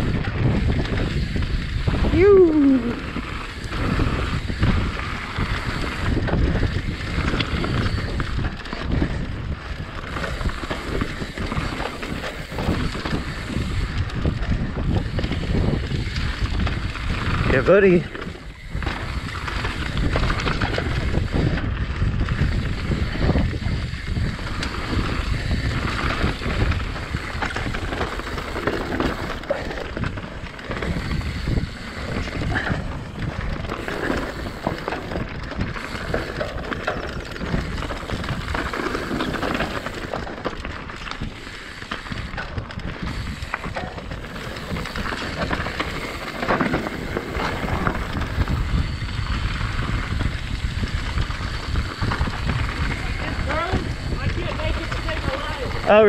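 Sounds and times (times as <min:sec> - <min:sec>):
bike rattling: 0:00.0 - 0:56.0
bike tyres rolling over dirt: 0:00.0 - 0:56.0
wind on microphone: 0:00.0 - 0:56.0.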